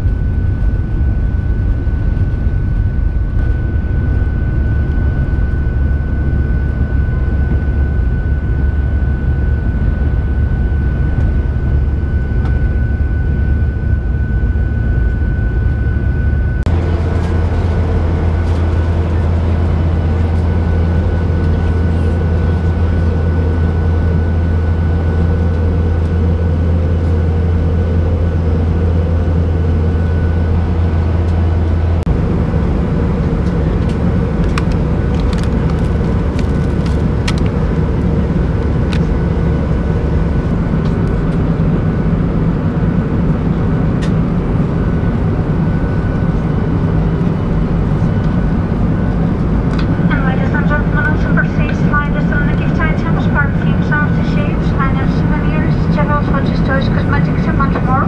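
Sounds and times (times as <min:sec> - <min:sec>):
aircraft engine drone: 0:00.0 - 0:58.0
low cabin hum: 0:00.0 - 0:58.0.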